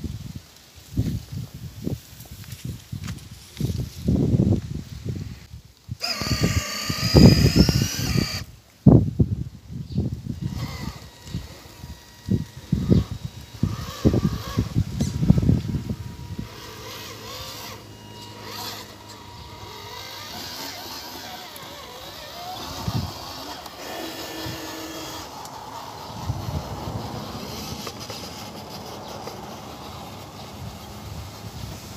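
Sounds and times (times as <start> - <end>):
small electric motor whining: 2.2 - 31.9.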